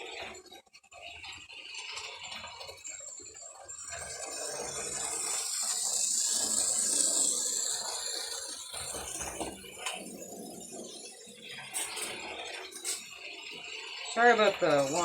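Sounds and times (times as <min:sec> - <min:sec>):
model train wheels rattling: 0:00.0 - 0:15.0.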